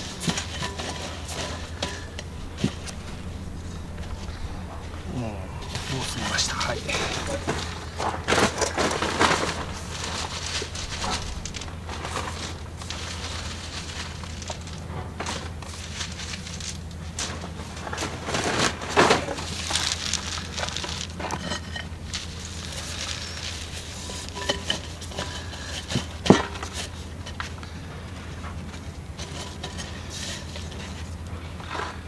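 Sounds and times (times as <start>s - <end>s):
low steady hum: 0.0s - 32.0s
plastic bag rustling and crunching: 0.0s - 32.0s.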